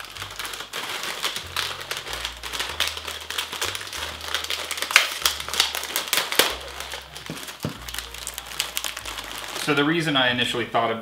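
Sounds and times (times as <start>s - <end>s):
plastic packet crinkling: 0.0s - 10.3s.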